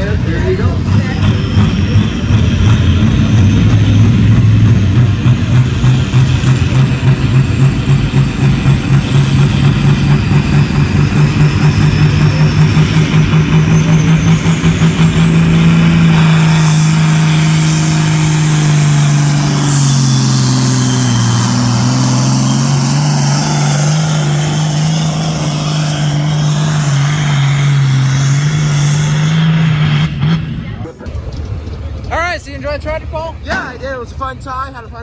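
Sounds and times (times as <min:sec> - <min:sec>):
tractor engine at high revs: 0:00.0 - 0:32.2.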